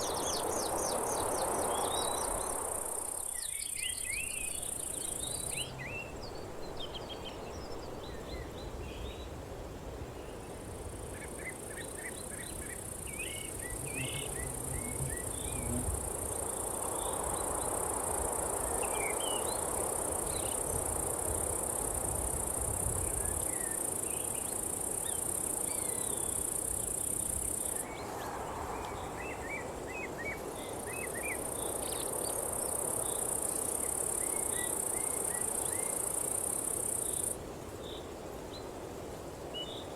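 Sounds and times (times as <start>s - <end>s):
insects chirping: 0.0s - 9.2s, 10.5s - 39.9s.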